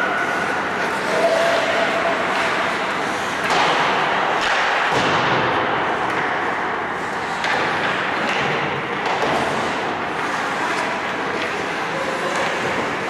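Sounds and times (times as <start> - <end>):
skates scraping on ice: 0.0 - 13.0
sticks and puck clacking: 0.0 - 13.0.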